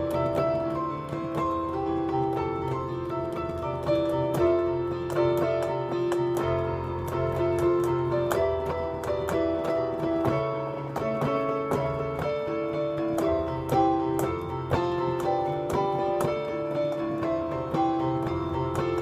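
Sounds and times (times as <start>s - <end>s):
digital piano playing: 0.0s - 19.0s.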